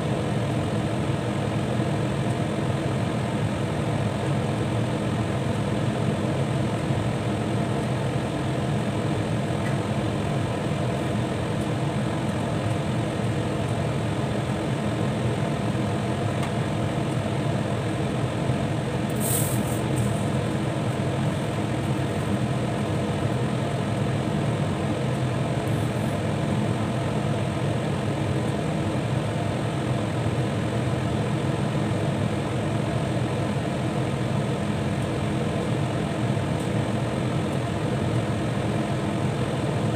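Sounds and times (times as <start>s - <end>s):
pot simmering with rumble and hiss: 0.0s - 39.9s.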